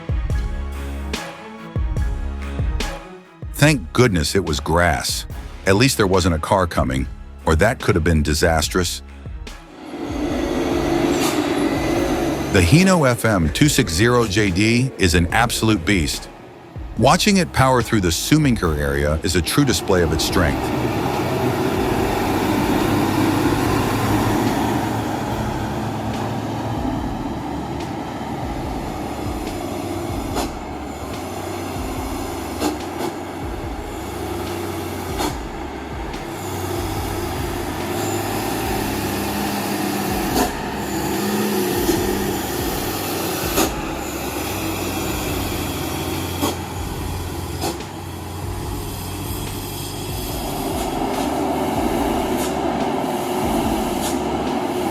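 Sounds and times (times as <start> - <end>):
heavy vehicle engine drone: 0.0 - 54.9.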